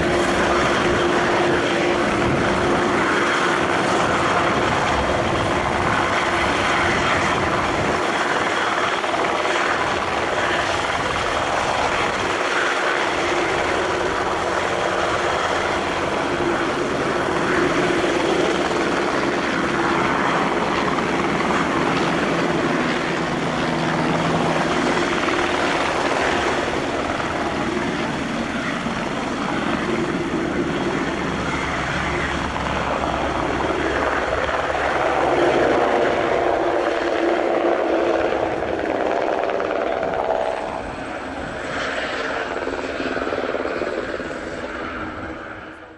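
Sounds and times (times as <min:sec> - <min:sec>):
helicopter turbine and rotor: 0:00.0 - 0:45.9.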